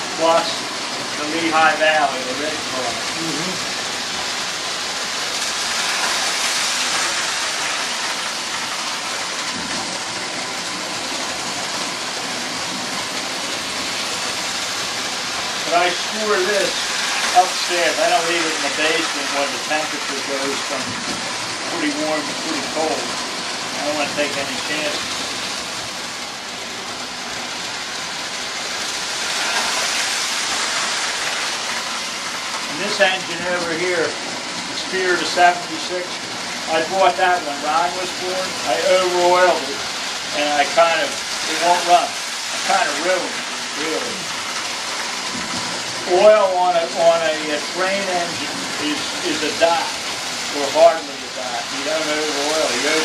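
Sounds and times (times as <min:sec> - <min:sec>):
model train whirring on rails: 0:00.0 - 0:53.0.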